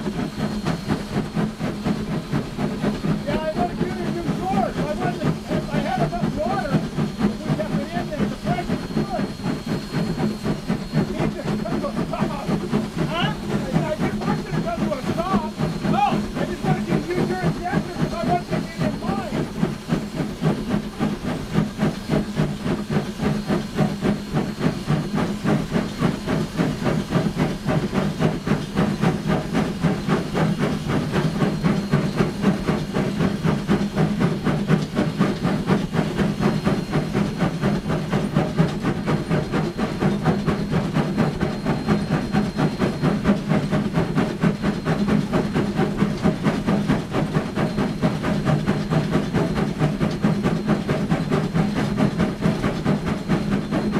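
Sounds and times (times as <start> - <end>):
steam hissing: 0.0 - 53.9
steam locomotive exhaust beats: 0.0 - 53.9.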